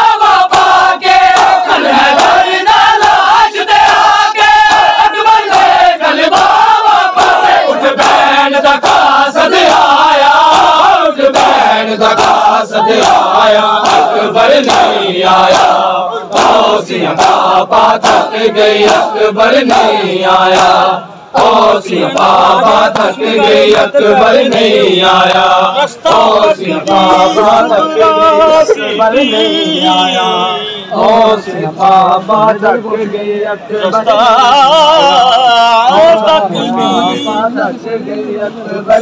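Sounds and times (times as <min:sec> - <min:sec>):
men chanting a lament: 0:00.0 - 0:39.0.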